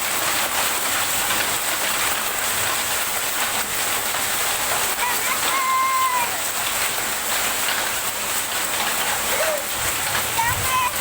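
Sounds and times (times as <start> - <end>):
heavy rain and hail pelting: 0.0 - 11.0.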